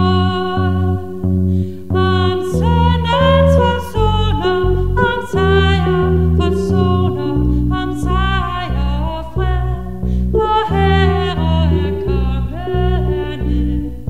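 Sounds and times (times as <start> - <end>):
woman singing a hymn: 0.0 - 1.2, 1.9 - 14.0
bass: 0.0 - 14.0
piano: 0.0 - 14.0.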